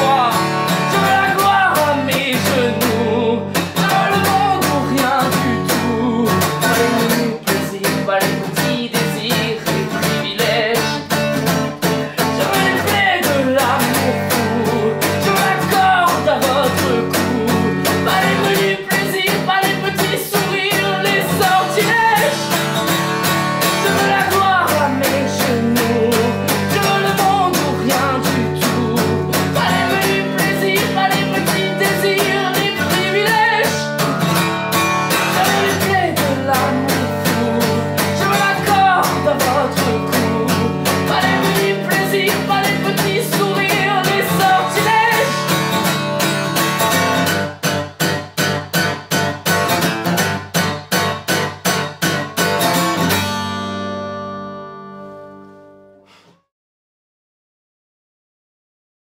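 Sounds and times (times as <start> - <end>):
man singing: 0.0 - 47.3
acoustic guitar strumming: 0.0 - 56.4.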